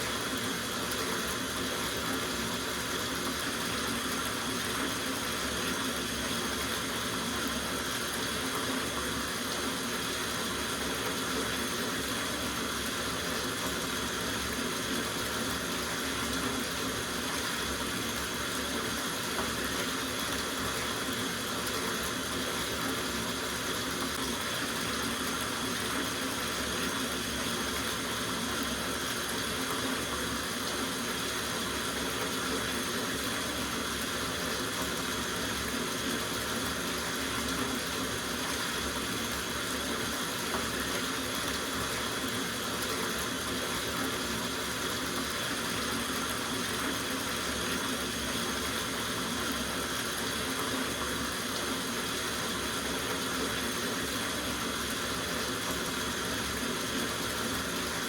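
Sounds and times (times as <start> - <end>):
tap water running into bathtub: 0.0 - 58.0.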